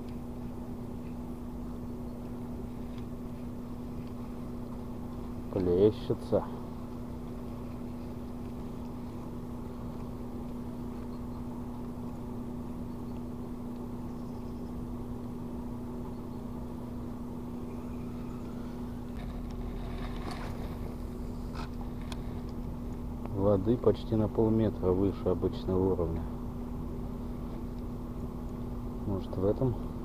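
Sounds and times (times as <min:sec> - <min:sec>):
steady motor hum: 0:00.0 - 0:30.0.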